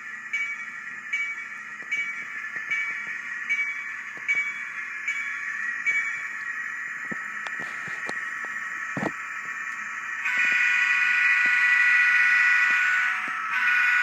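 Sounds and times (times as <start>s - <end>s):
model train engine sound from speaker: 0.0s - 14.0s.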